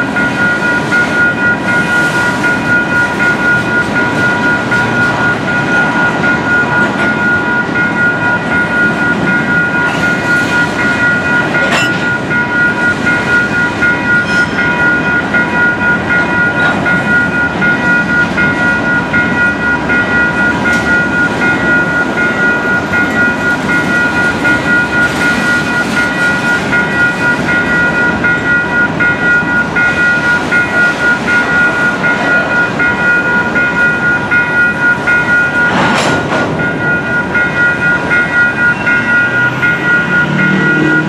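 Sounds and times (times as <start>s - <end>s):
crossing warning bell ringing: 0.0s - 41.0s
train wheels rumbling on rails: 0.0s - 41.0s.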